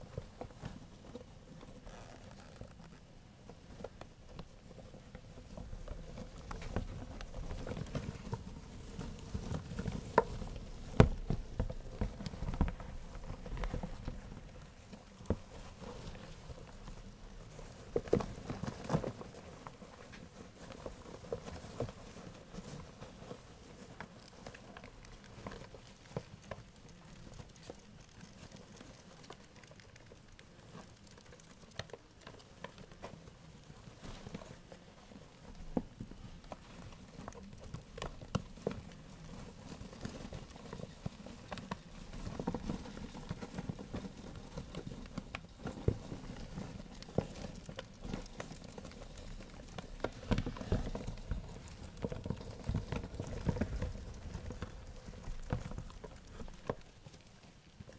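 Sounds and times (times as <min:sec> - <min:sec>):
rats scrabbling in bedding: 0:00.0 - 0:57.9.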